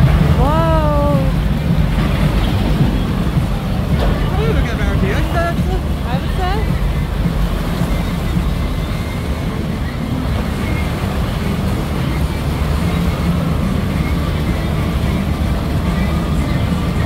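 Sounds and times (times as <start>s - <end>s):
steady low rumble: 0.0s - 17.0s
water rushing and splashing: 0.0s - 17.0s.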